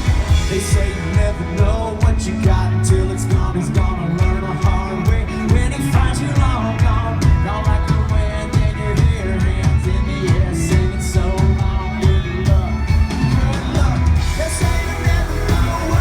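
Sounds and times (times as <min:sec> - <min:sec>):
bass: 0:00.0 - 0:16.0
drums: 0:00.0 - 0:16.0
live country band playing: 0:00.0 - 0:16.0
person singing: 0:00.0 - 0:16.0.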